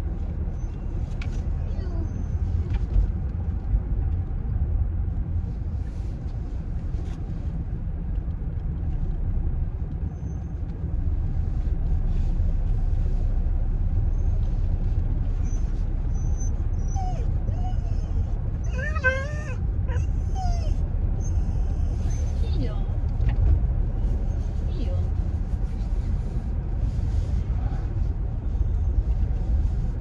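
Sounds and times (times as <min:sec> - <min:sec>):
road and engine rumble inside car: 0:00.0 - 0:30.0.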